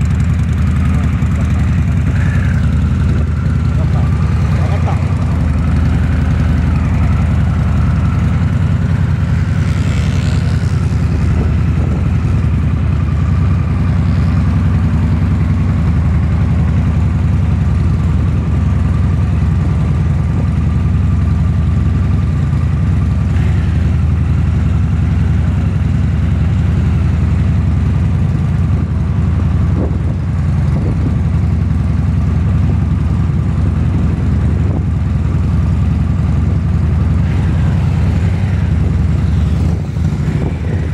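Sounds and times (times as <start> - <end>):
motorcycles idling with deep rumble: 0.0 - 40.9.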